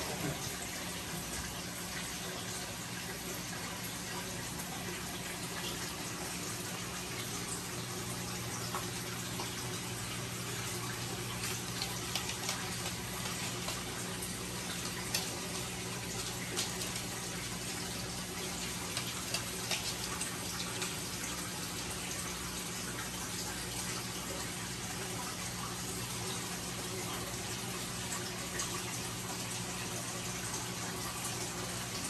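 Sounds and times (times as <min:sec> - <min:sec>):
aquarium water bubbling: 0:00.0 - 0:32.0.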